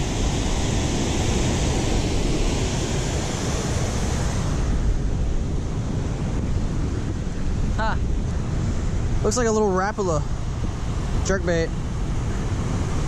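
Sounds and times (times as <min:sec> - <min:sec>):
rushing spillway water: 0:00.0 - 0:13.0
wind buffeting microphone: 0:00.0 - 0:13.0.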